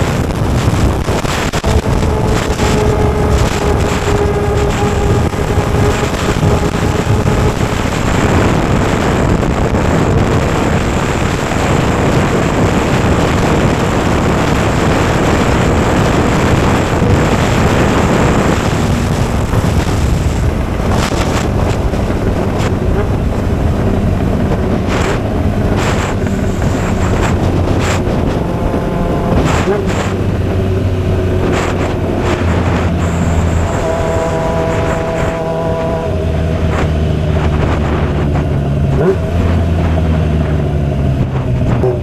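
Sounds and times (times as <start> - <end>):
motorcycle engine running: 0.0 - 42.0
wind noise on microphone: 0.0 - 42.0.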